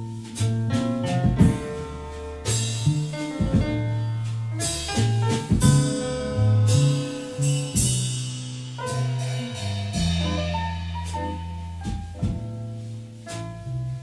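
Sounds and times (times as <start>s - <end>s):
sustained bass notes: 0.0s - 14.0s
sharp drum or cymbal hits: 0.4s - 12.6s.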